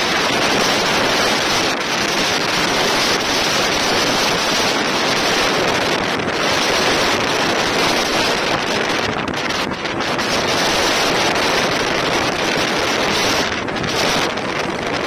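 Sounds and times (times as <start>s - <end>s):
water rushing along boat hull: 0.0s - 15.0s
wind buffeting microphone: 0.0s - 15.0s.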